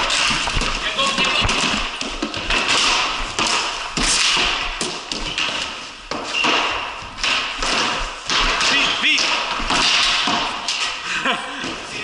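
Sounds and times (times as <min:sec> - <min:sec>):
hockey sticks tapping concrete floor: 0:00.0 - 0:12.0.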